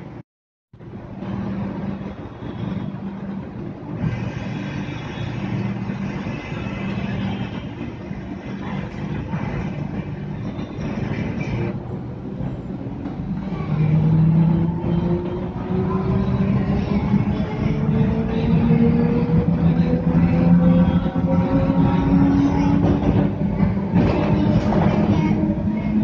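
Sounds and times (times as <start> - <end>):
train running rumble: 0.8 - 26.0.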